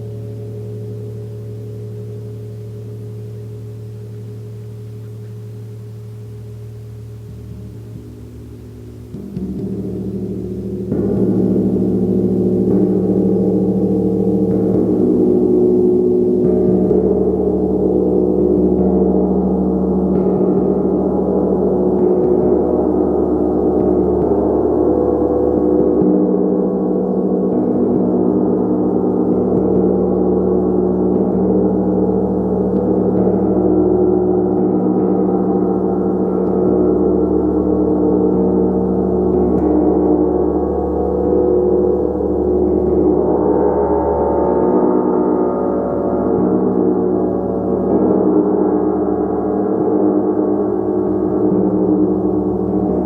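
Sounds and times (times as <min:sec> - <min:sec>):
gong ringing: 0:00.0 - 0:53.0.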